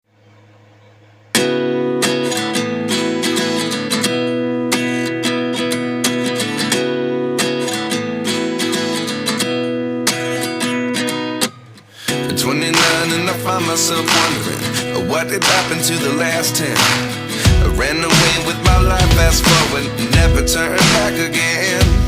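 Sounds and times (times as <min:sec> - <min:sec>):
strummed acoustic guitar chords: 0:01.3 - 0:22.0.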